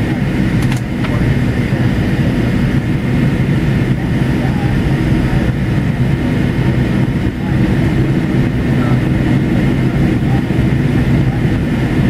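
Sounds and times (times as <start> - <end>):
jet cabin engine rumble: 0.0 - 12.0.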